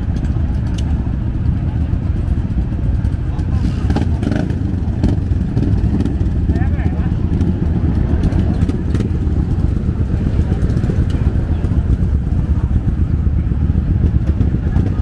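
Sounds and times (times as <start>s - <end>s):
faint voices: 0.0s - 15.0s
motorcycle engines rumbling: 0.0s - 15.0s.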